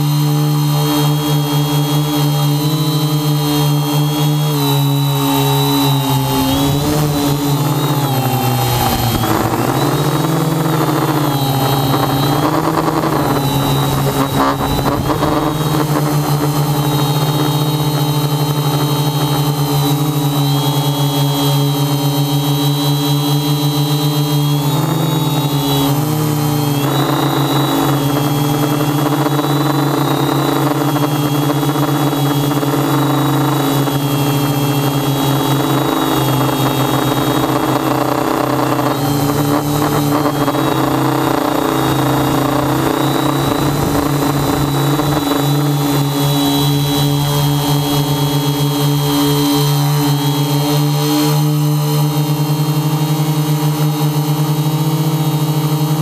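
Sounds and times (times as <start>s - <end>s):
drone buzzing whine: 0.0s - 56.0s.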